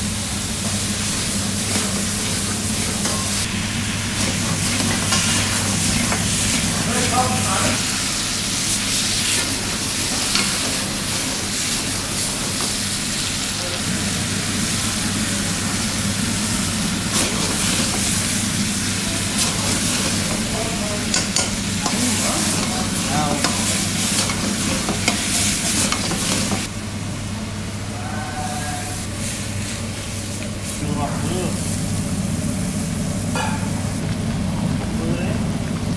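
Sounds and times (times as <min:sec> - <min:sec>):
food sizzling in a wok: 0:00.0 - 0:26.7, 0:28.6 - 0:35.9.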